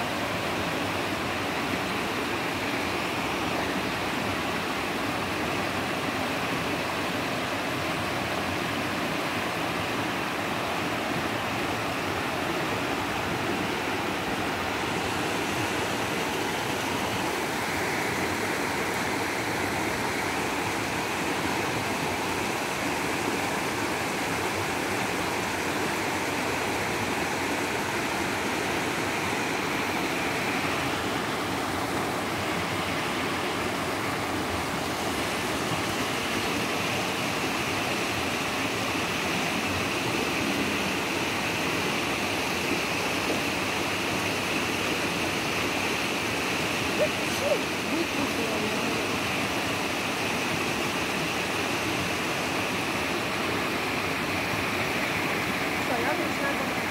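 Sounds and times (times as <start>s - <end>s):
river rushing over stones: 0.0s - 56.9s.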